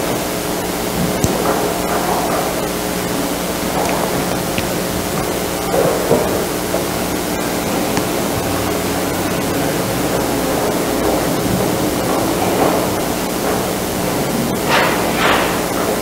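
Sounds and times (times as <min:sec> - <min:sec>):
room tone hiss: 0:00.0 - 0:16.0.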